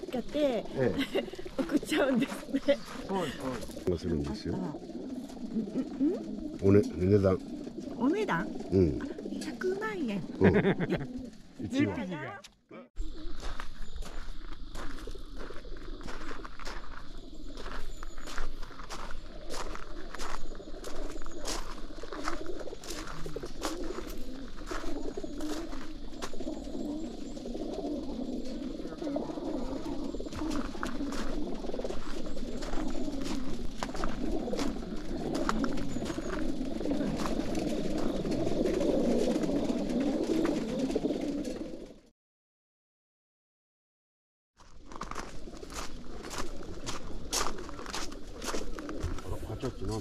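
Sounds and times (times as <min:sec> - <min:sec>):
pigeons cooing: 0:00.0 - 0:12.4, 0:13.0 - 0:42.1, 0:44.9 - 0:50.0.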